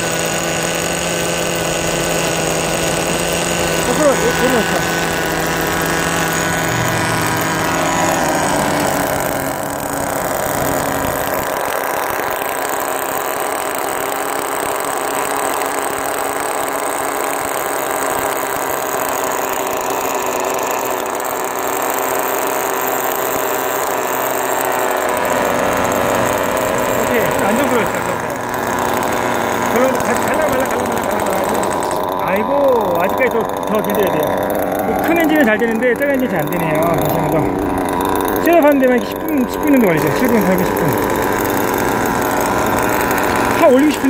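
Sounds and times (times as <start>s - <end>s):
small rc car engine idling: 0.0s - 44.0s.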